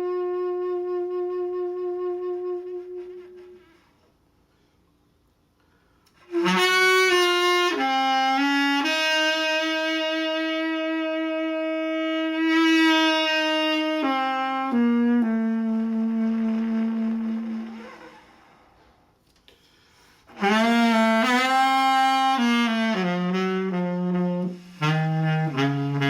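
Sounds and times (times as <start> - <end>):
solo saxophone playing: 0.0 - 4.1, 6.1 - 19.1, 20.0 - 26.0.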